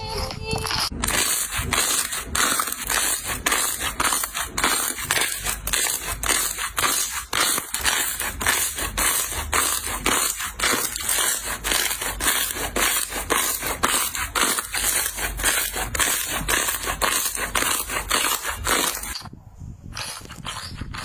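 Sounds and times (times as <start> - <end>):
slime squishing by hand: 0.9 - 19.2.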